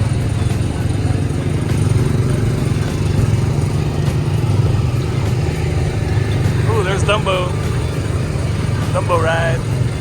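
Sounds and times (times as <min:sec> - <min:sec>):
small engine droning: 0:00.0 - 0:10.0.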